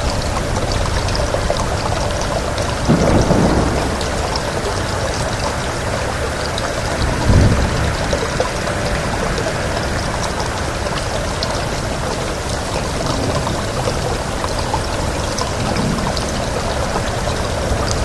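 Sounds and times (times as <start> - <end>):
low rumble of wind: 0.0 - 18.0
raindrops ticking: 0.0 - 18.0
steady rain: 0.0 - 18.0.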